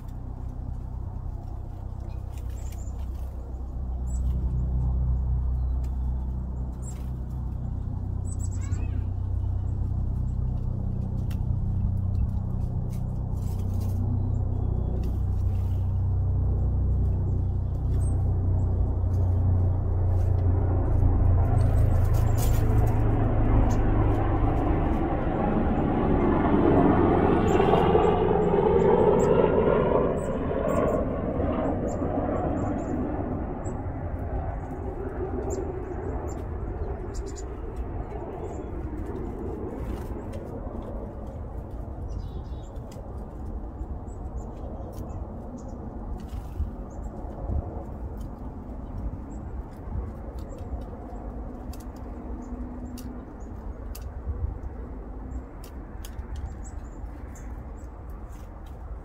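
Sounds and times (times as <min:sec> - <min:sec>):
road noise of passing vehicle: 0:00.0 - 0:59.0
vehicle engine rumbling: 0:00.0 - 0:59.0.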